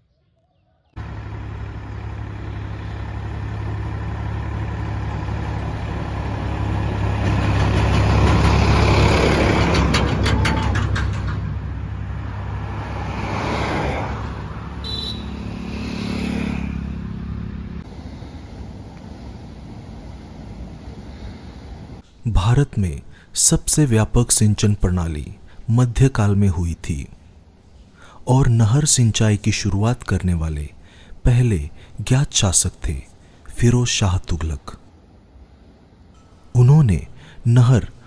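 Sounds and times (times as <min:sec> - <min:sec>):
road traffic passing: 0:00.9 - 0:38.0.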